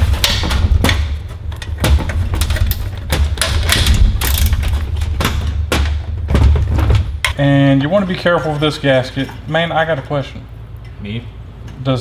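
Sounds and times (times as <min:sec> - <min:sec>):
steady deep rumble: 0:00.0 - 0:11.5.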